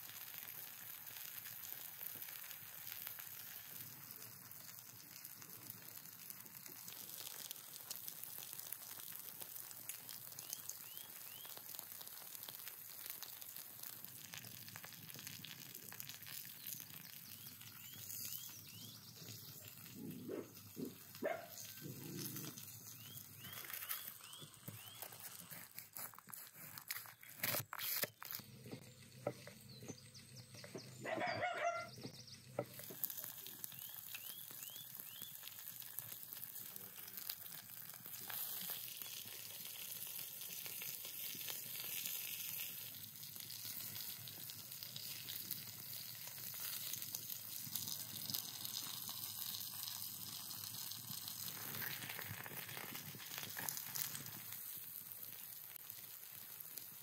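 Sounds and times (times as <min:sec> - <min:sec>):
vegetables sizzling on hot stone: 0:00.0 - 0:31.1, 0:31.8 - 0:57.0.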